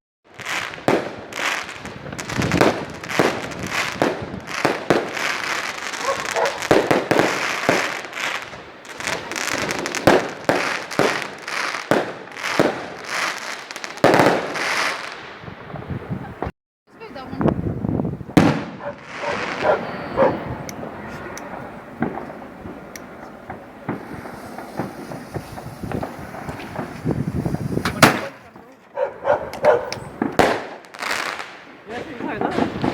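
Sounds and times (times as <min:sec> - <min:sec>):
fireworks bangs and crackles: 0:00.3 - 0:32.9.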